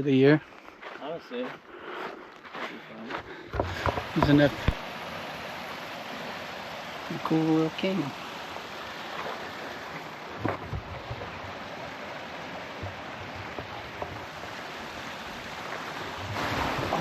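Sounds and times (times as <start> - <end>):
creek flowing: 3.2 - 17.0.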